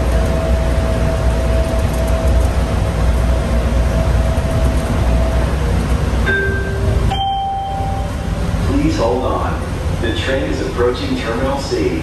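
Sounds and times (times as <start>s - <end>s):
train car rumbling with whine: 0.0s - 12.0s.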